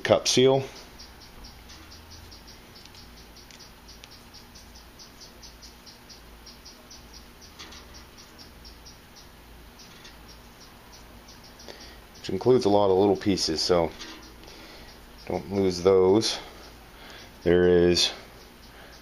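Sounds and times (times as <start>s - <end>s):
cricket chirping: 0.4s - 19.0s.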